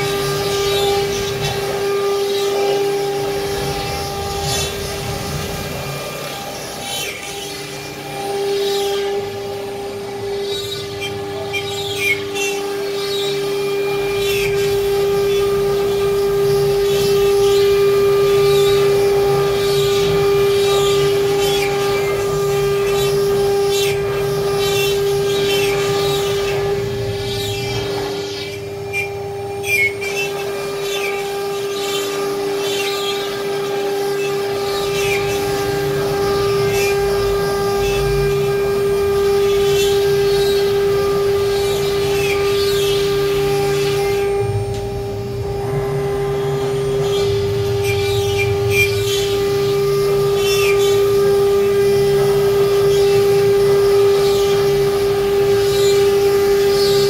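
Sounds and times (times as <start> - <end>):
router bit grating cut: 0.0 - 57.0
spindle high-pitched whine: 0.0 - 57.0.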